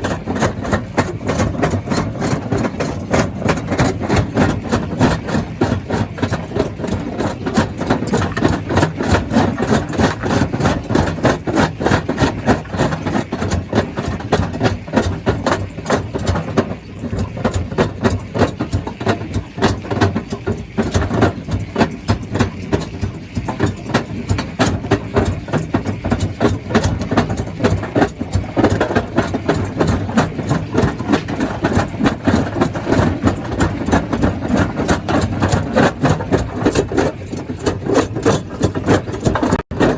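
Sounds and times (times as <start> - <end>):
fast rattle of knocks: 0.0 - 39.9
stone crusher machine running: 0.0 - 39.9.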